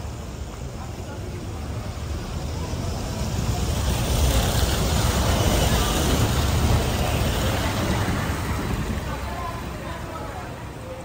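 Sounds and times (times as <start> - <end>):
road vehicle passing: 1.5 - 11.0.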